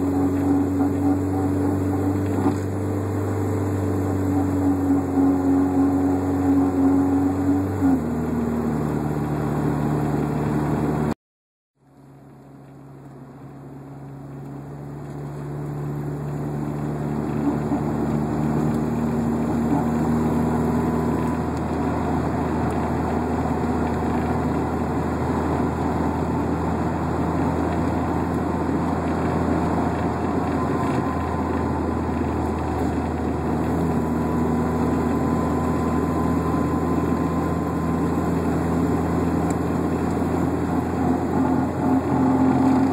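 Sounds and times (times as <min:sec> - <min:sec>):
car engine running: 0:00.0 - 0:11.2, 0:11.8 - 0:42.9.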